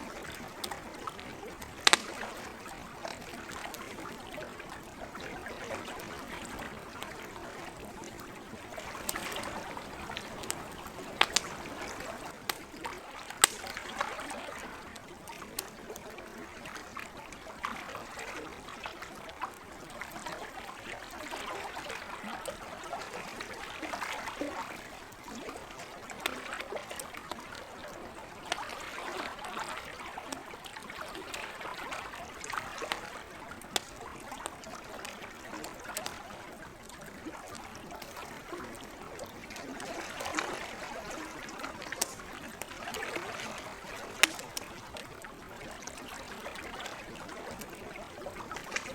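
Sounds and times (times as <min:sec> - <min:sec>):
campfire crackling and popping: 0:00.0 - 0:16.9, 0:19.5 - 0:48.9
lake water lapping at shore: 0:00.0 - 0:48.9.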